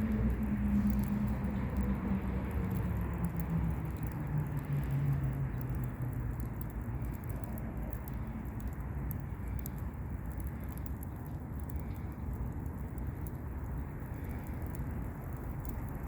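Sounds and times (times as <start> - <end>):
campfire crackling: 0.0 - 16.0
small pops: 0.0 - 16.0.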